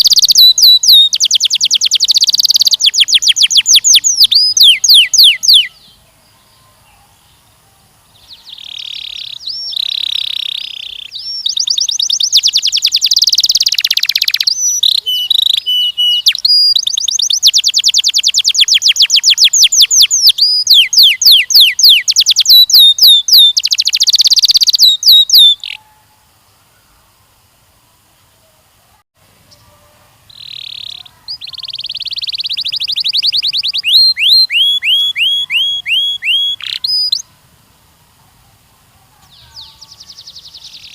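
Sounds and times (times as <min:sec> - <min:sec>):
canary singing trills: 0:00.0 - 0:26.2, 0:29.5 - 0:37.4, 0:39.2 - 0:40.9.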